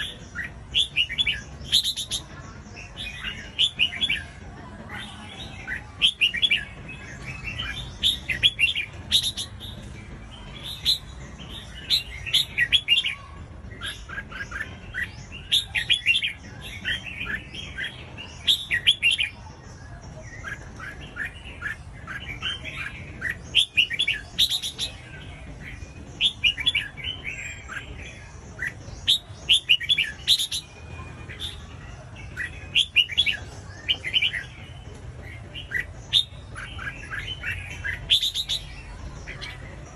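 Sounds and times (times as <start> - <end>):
bird chirping phrases: 0.0 - 39.9.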